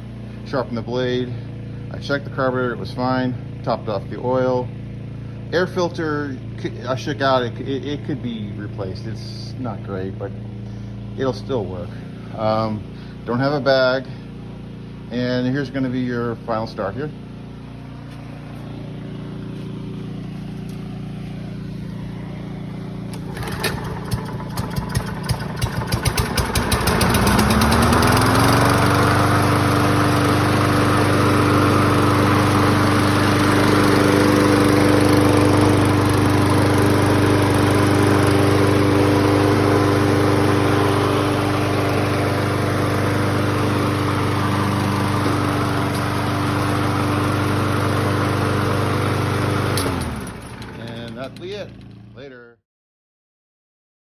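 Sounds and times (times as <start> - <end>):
mower engine starting and running: 0.0 - 52.2.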